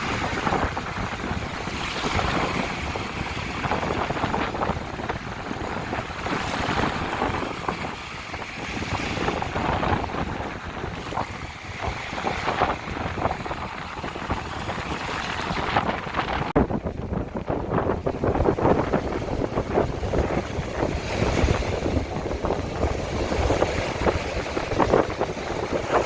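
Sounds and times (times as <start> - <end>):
sea waves washing onto beach: 0.0 - 26.0
wind rumbling on microphone: 0.0 - 26.0.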